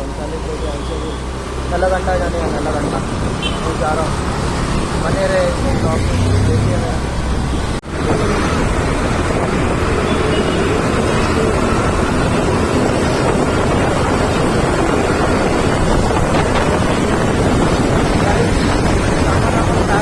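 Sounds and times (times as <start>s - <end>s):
road and engine noise: 0.0s - 20.0s
wind rushing over microphone: 1.4s - 20.0s.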